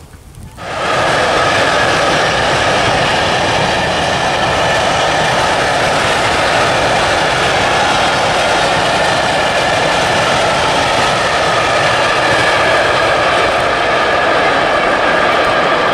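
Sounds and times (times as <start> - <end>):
train wheels on rails: 0.4 - 15.9
steady whine: 0.5 - 15.9.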